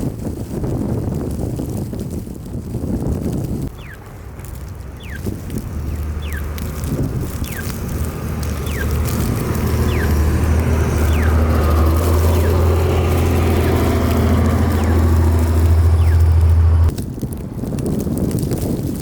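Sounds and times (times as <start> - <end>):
low vehicle engine rumble: 0.0 - 19.0.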